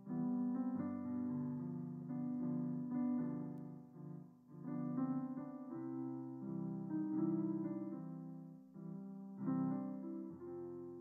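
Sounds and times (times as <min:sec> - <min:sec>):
hymn on piano in slow chords: 0:00.0 - 0:11.0.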